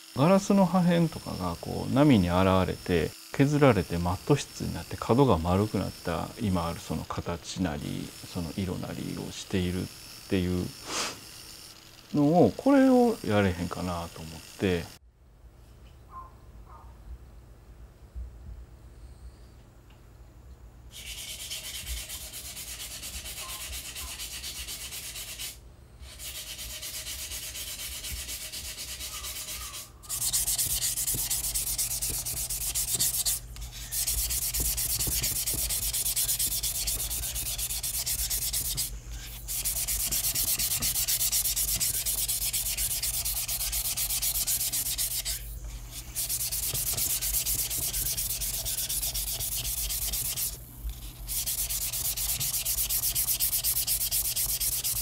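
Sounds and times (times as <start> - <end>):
sandpaper scratching ceramic glaze: 0.2 - 11.4, 20.9 - 55.0.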